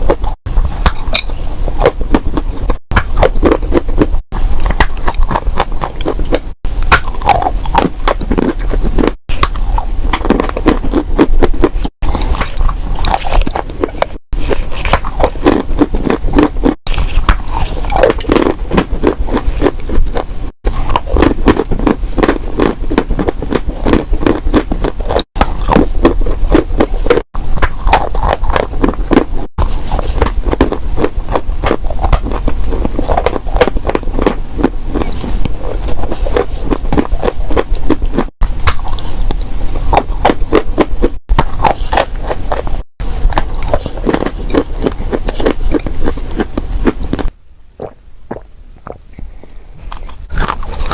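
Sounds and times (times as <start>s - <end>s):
dry clay being chewed: 0.0s - 50.9s.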